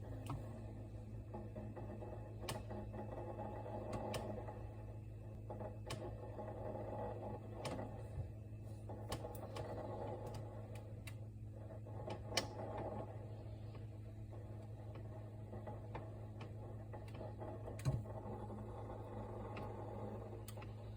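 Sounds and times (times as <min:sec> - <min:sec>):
refrigerator hum: 0:00.0 - 0:20.9.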